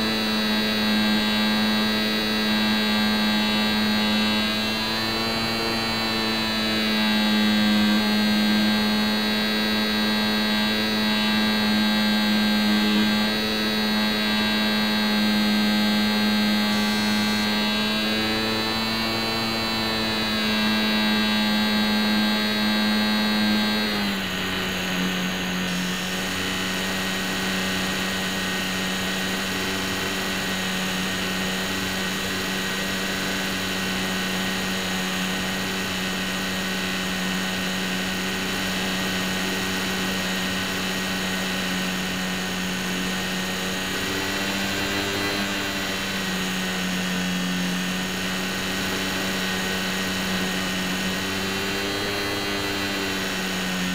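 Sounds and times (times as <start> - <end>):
model plane motor whining: 0.0 - 53.9.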